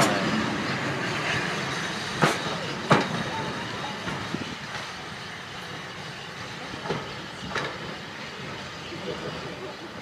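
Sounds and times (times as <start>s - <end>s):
train wheels clacking on rail joints: 0.0s - 9.9s.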